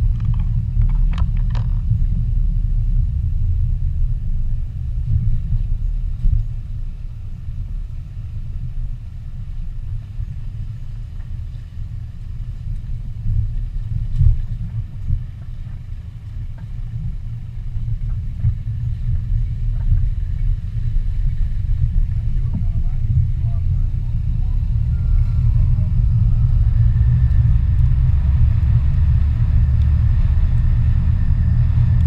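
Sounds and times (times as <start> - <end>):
car rumble with road and wind noise: 0.0 - 32.0.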